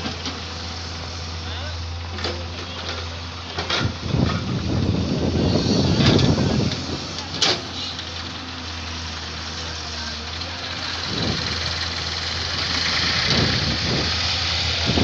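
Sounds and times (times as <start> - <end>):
diesel engine humming: 0.0 - 15.0
rough engine rumble: 0.0 - 15.0.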